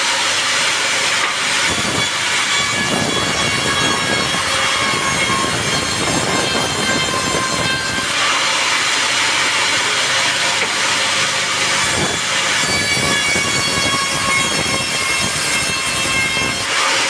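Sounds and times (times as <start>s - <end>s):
band saw cutting wood: 0.0s - 17.0s.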